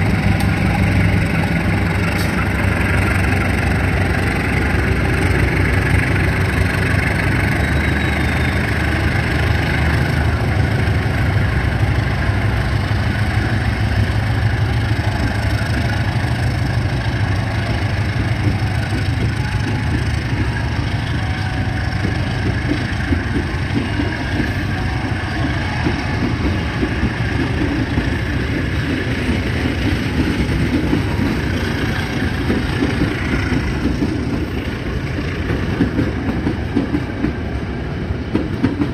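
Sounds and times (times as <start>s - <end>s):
rough engine rumble: 0.0s - 38.3s
locomotive engine humming: 0.0s - 38.9s.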